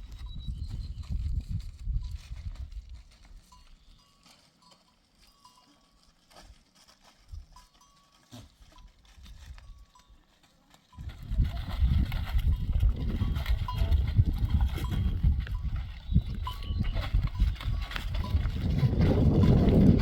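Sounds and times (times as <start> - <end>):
livestock bells clinking: 3.4 - 20.0.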